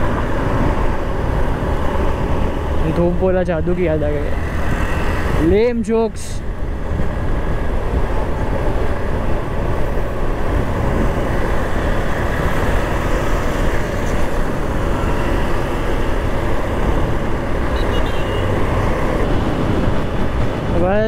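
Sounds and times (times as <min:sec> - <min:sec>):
wind rushing on microphone: 0:00.0 - 0:21.0.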